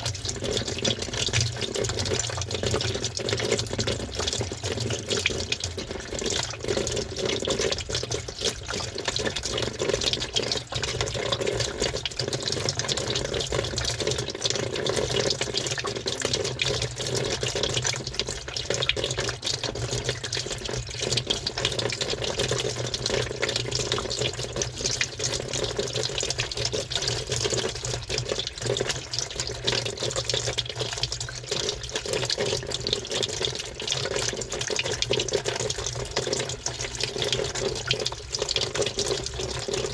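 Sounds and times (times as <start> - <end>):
water sloshing in washing machine drum: 0.0 - 39.9.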